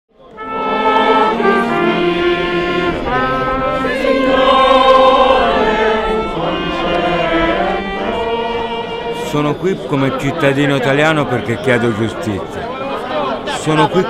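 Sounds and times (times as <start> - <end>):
choir singing held notes: 0.2 - 14.0
violin: 0.2 - 14.0
trumpet: 0.3 - 12.6.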